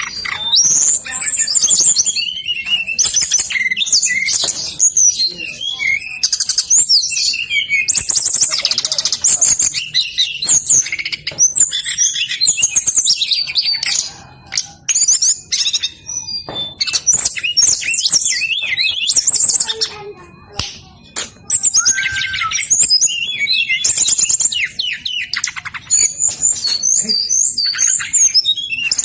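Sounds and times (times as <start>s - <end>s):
bird twittering and trilling: 0.0s - 29.0s.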